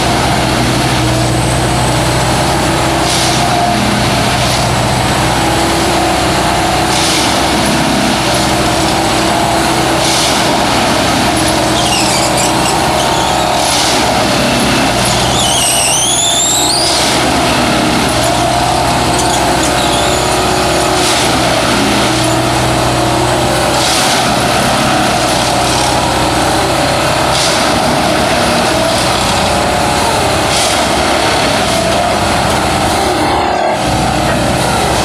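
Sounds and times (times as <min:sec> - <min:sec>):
heavy engine running: 0:00.0 - 0:35.0.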